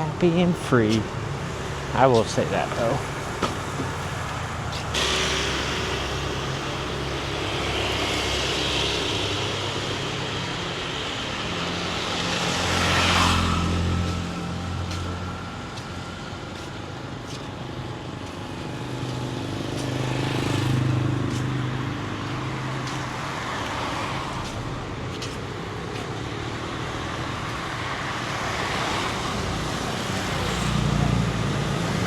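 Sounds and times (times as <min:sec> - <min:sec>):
road traffic: 0:00.0 - 0:32.0
vehicle engine passing: 0:01.9 - 0:17.2, 0:17.9 - 0:32.0.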